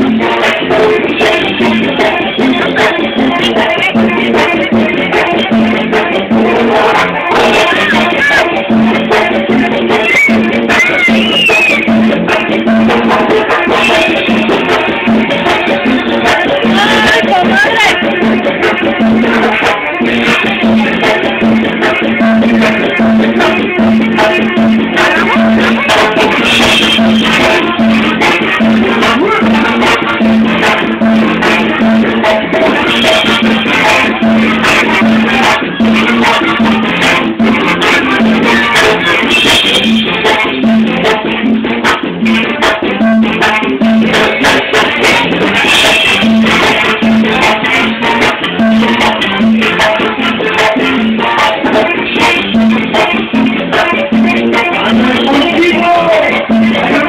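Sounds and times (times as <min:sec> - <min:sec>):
live brass band music: 0:00.0 - 0:10.0, 0:12.1 - 0:57.0
pulsing bass line: 0:00.0 - 0:57.0.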